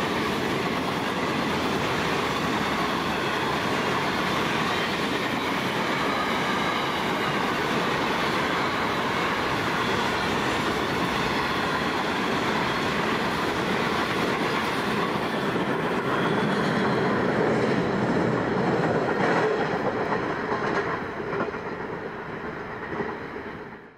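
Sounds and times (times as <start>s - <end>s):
train rumble: 0.0s - 23.9s
train wheels rolling on rails: 0.0s - 23.9s.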